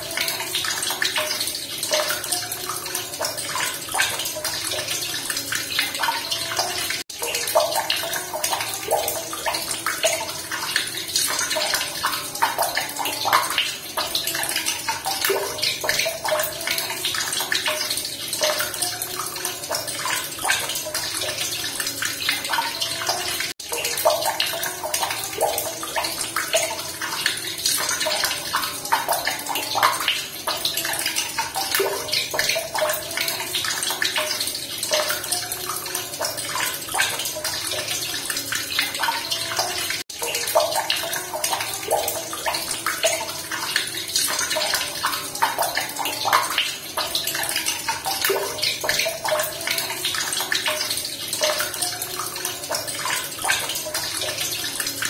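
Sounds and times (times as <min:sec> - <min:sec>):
running water splashing: 0:00.0 - 0:55.0.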